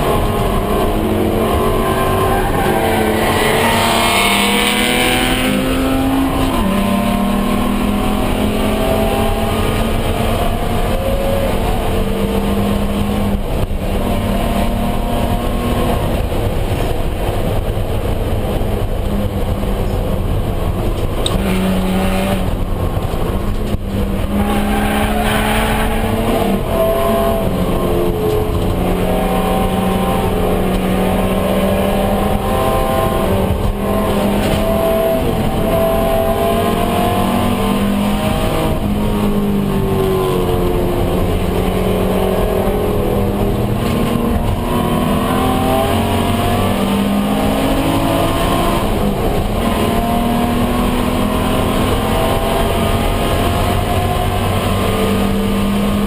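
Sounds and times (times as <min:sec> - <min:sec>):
race car engine shifting gears: 0:00.0 - 0:56.0
wind and road noise: 0:00.0 - 0:56.0.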